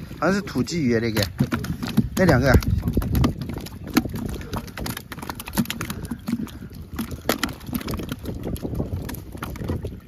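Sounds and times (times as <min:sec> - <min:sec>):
fish splashing: 0:00.0 - 0:10.0
wind on microphone: 0:00.0 - 0:10.0
fish slapping in plastic bucket: 0:01.0 - 0:10.0.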